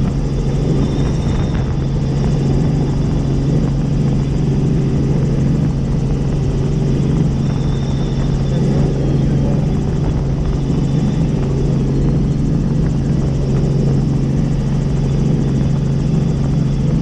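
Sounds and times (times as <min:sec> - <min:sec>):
helicopter in flight: 0:00.0 - 0:17.0.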